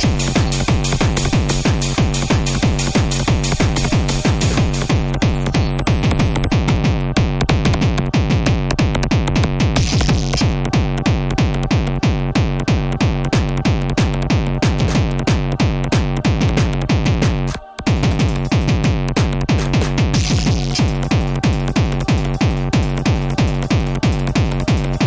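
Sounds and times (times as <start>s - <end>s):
drum machine beat: 0.0s - 25.0s
synthesizer bass notes: 0.0s - 25.0s.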